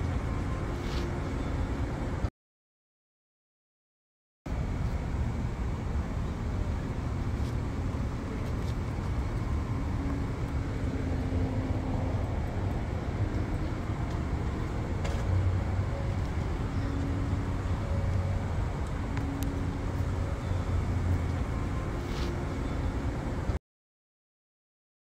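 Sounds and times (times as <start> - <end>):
city traffic rumble: 0.0 - 2.3, 4.5 - 23.6.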